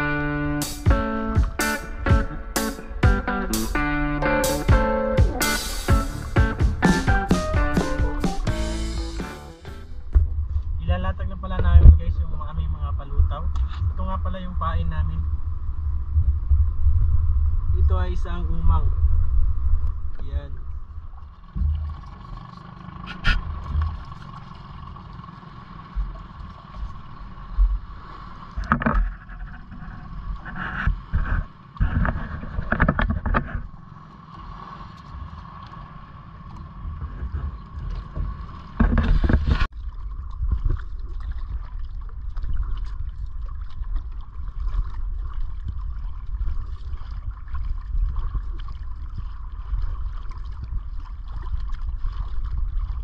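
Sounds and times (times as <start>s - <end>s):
low rumble of wind and water: 0.0s - 7.2s, 9.8s - 53.0s.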